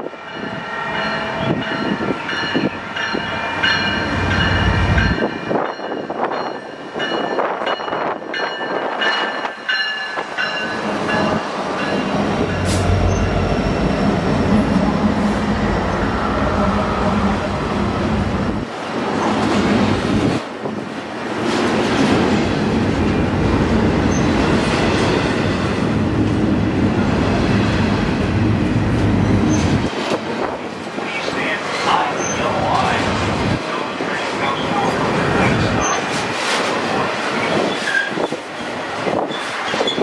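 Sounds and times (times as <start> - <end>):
diesel locomotive engines: 0.0 - 40.0.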